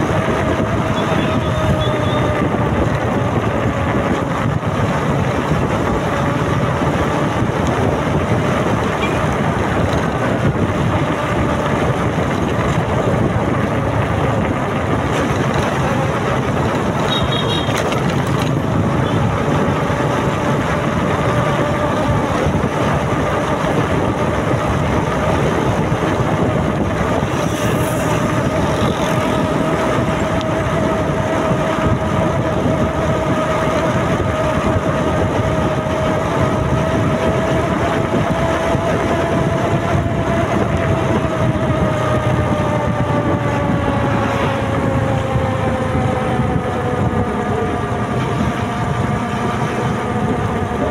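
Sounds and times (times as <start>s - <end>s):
scooter engine drone: 0.0s - 50.9s
wind and road noise: 0.0s - 50.9s.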